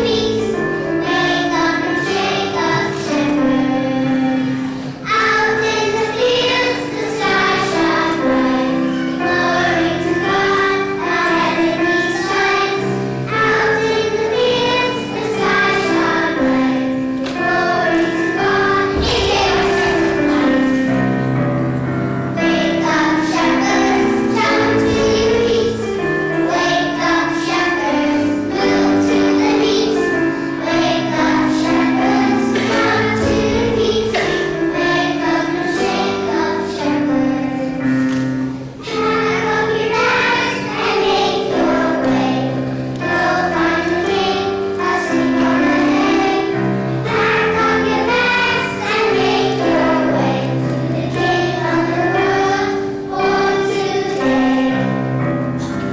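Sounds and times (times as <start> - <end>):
children's choir singing: 0.0 - 55.9
musical accompaniment: 0.0 - 55.9.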